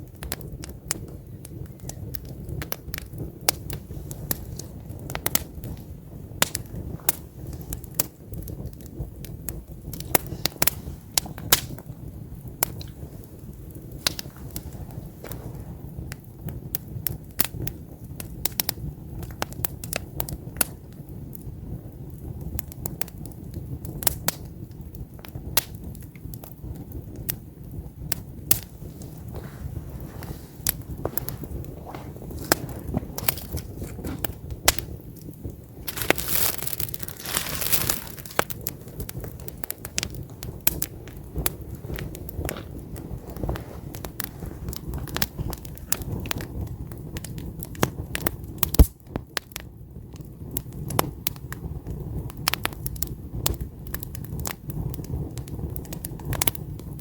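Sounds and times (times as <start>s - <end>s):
campfire pops and snaps: 0.0s - 57.0s
low rush of flame: 0.0s - 57.0s.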